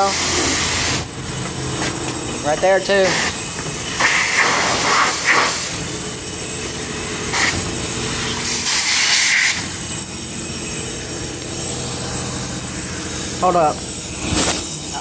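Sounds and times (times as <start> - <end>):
pressure washer spraying water: 0.0 - 14.9
steady hum: 0.0 - 15.0.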